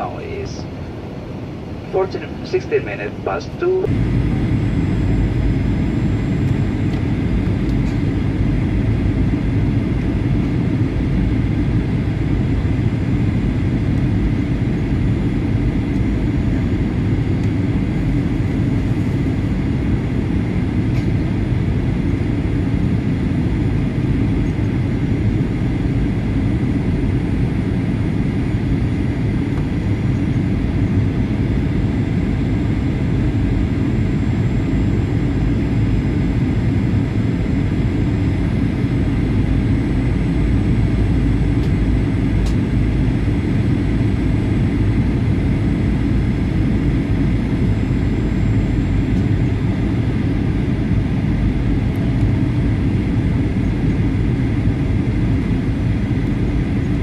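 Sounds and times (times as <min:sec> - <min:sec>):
jet cabin rumble: 0:00.0 - 0:57.0.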